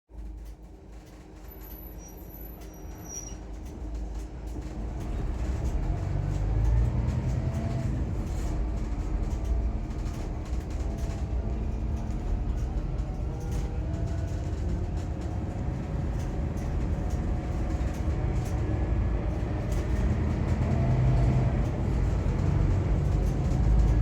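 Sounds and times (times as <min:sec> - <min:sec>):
coach engine and road noise: 0:00.2 - 0:24.0.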